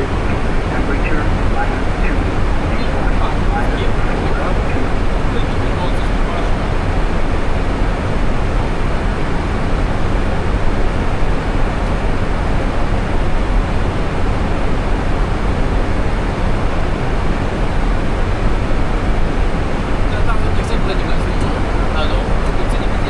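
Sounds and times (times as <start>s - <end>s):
aircraft cockpit rumble: 0.0s - 23.0s.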